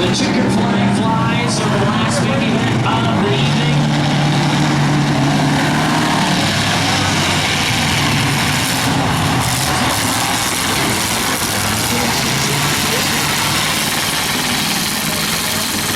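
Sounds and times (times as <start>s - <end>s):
car engines idling: 0.0s - 15.9s.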